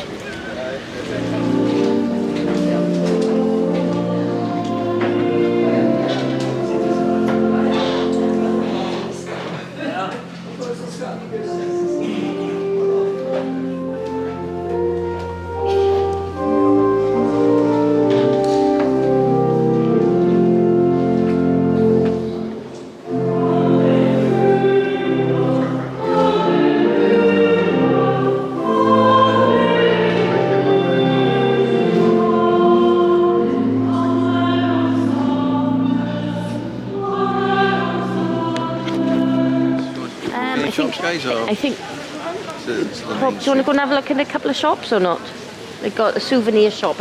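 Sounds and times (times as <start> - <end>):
choir singing held chords: 0.7 - 41.3.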